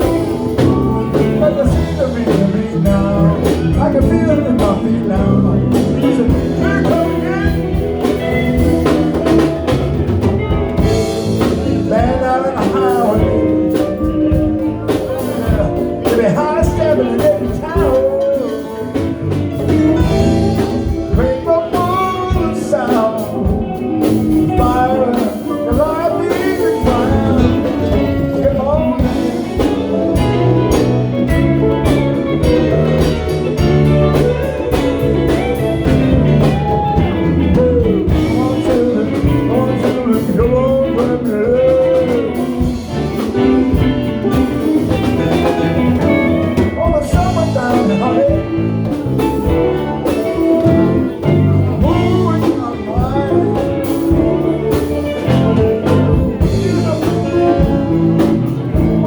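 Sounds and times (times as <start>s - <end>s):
band playing ragtime blues: 0.0s - 59.0s
guitar: 0.0s - 59.0s
person singing: 0.0s - 59.0s.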